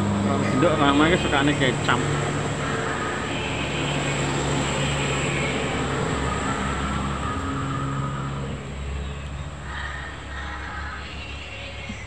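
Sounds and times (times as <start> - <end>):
motor vehicle engines rumbling: 0.0 - 12.0.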